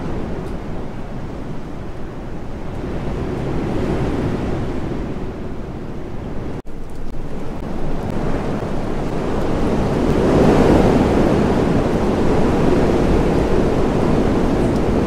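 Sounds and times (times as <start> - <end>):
wind gusting through leaves: 0.0 - 15.0.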